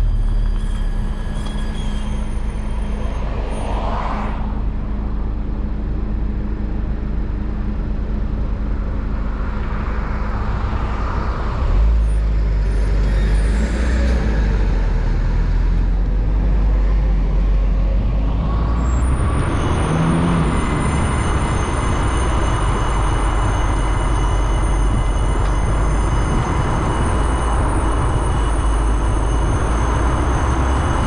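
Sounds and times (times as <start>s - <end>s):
car engine and road noise rumble: 0.0s - 31.0s.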